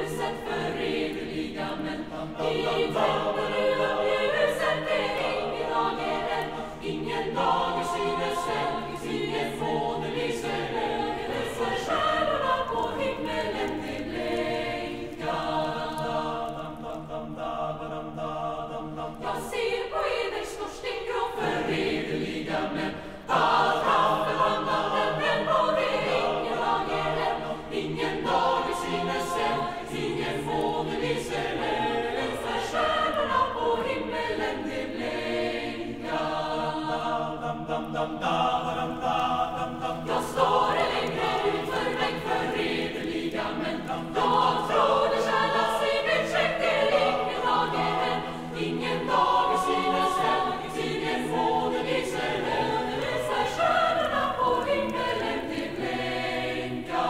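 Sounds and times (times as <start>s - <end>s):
choir singing slow phrases: 0.0s - 57.0s.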